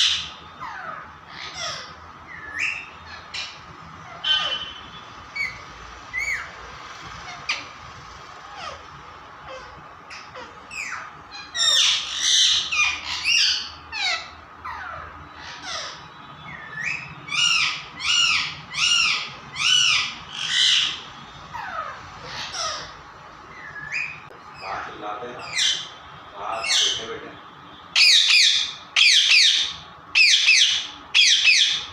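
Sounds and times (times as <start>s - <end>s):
parrot squawking: 0.0s - 27.3s, 27.9s - 31.9s.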